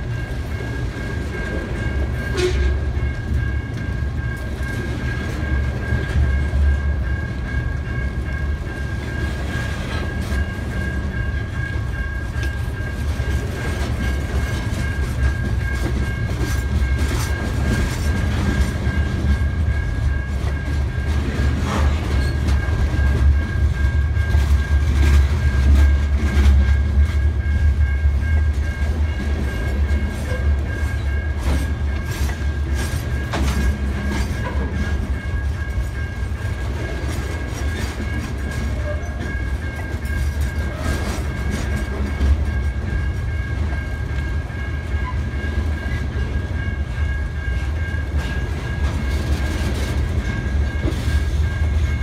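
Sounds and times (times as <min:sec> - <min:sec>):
train wheels rumbling on rail: 0:00.0 - 0:52.0
wheels clicking over rail joints: 0:00.0 - 0:52.0.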